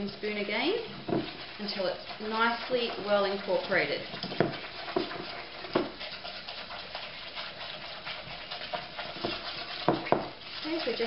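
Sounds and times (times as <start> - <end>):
spoon beating batter: 0.0 - 11.0.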